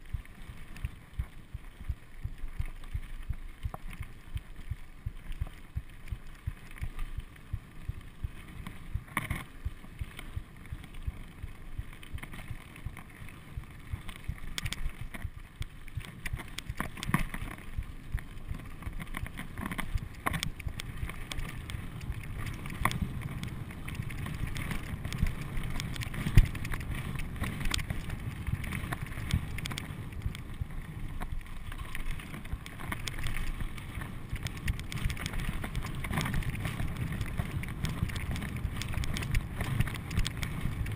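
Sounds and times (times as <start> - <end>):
bike clicking and rattling: 0.0 - 40.9
bike tyres rumbling on gravel: 0.0 - 40.9.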